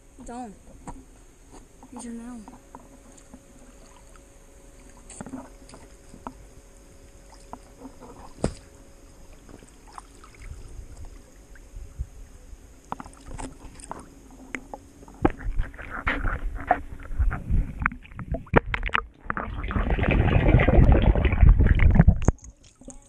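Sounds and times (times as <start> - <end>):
water lapping and sloshing: 1.8 - 23.0.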